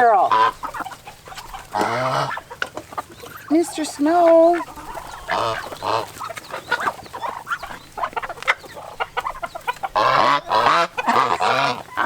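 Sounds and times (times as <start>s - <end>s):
poultry clucking and calling: 0.0s - 12.0s.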